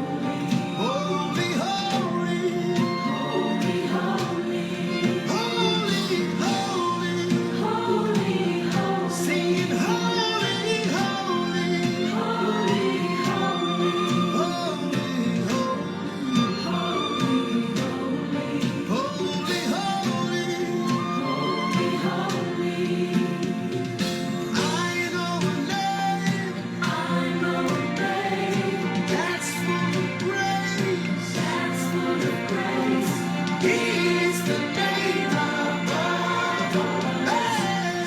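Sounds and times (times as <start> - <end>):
gospel choir singing: 0.0 - 38.0
instrumental backing: 0.0 - 38.0.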